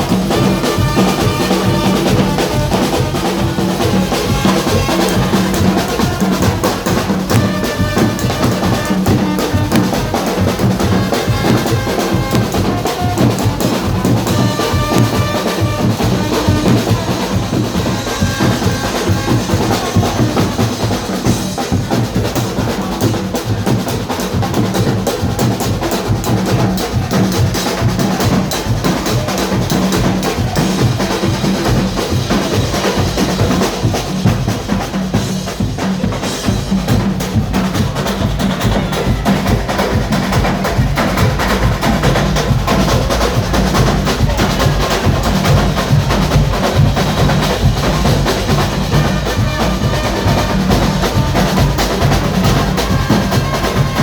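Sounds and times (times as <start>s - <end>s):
drum band playing: 0.0s - 54.0s.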